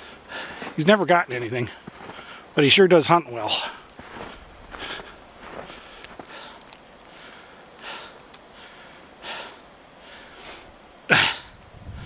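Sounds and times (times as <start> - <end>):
close breathing: 0.0 - 0.8, 1.7 - 2.6, 3.5 - 12.0.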